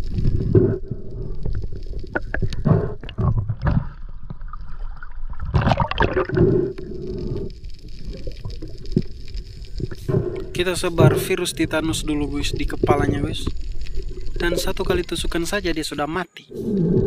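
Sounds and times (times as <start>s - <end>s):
muffled water gurgling and sloshing: 0.0s - 15.8s.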